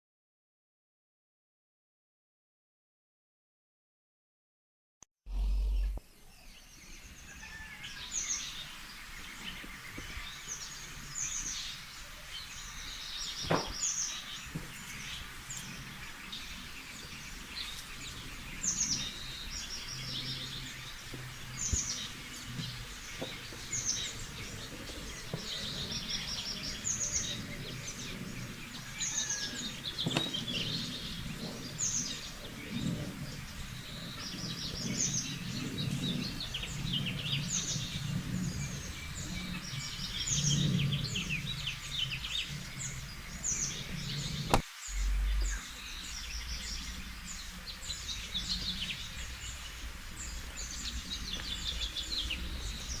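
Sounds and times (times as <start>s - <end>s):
background hiss: 5.3s - 53.0s
small birds chirping: 5.3s - 53.0s.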